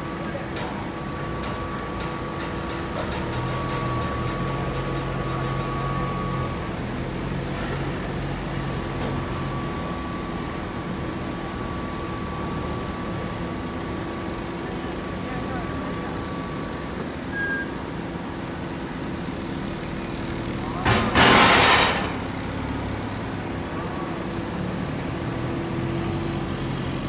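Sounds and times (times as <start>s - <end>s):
forklift running: 0.0s - 27.0s.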